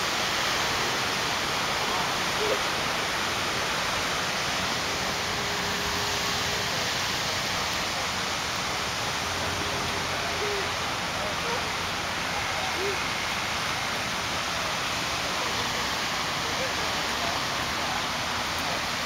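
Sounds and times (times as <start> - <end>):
fountain water splashing: 0.0 - 19.0.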